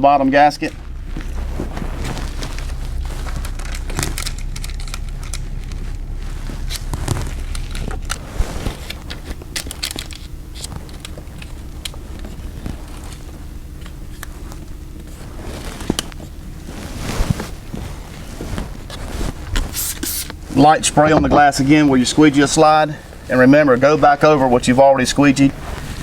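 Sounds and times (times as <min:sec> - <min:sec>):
plastic film crinkling: 0:00.3 - 0:23.4.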